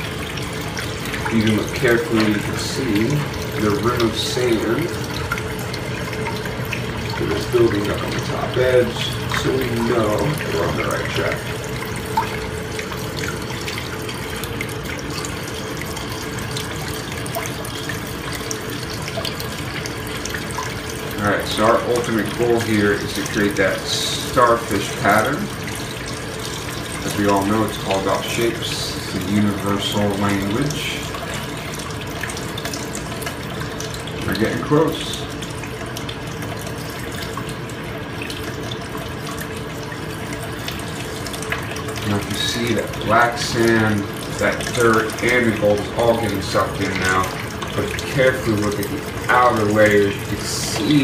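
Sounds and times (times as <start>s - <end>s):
faint steady hum: 0.0s - 51.0s
water swirling in a bowl: 0.0s - 51.0s.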